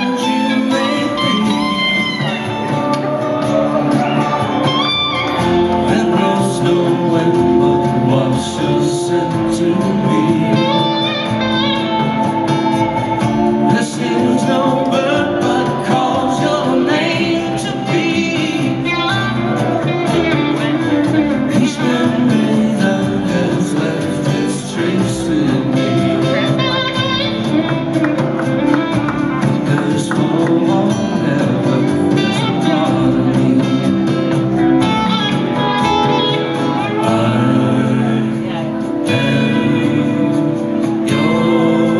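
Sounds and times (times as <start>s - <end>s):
acoustic guitar: 0.0s - 41.9s
electric guitar: 0.0s - 41.9s
person singing: 0.0s - 41.9s.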